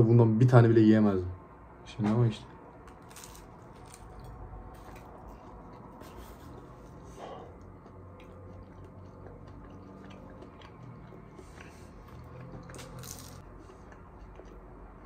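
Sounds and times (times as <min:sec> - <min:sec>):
person chewing crunchy food: 0:02.8 - 0:15.0.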